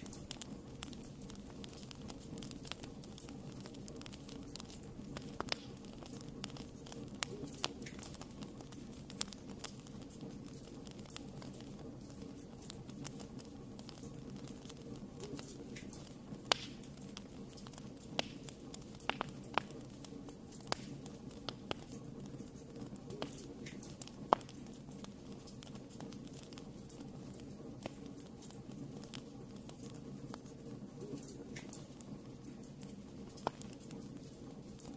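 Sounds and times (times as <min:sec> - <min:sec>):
fire flames rumbling: 0:00.0 - 0:34.9
wood crackling and popping: 0:00.0 - 0:34.9.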